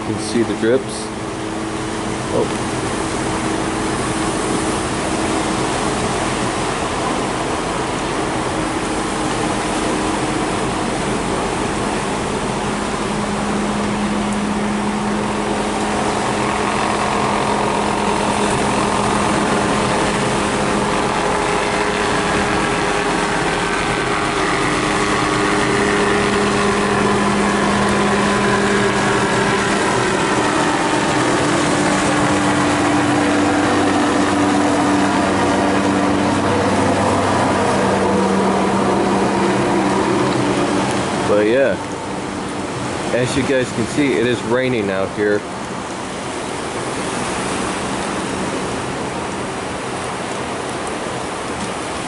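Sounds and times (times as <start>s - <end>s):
helicopter flying overhead: 0.0s - 52.0s
rain hissing: 0.0s - 52.0s.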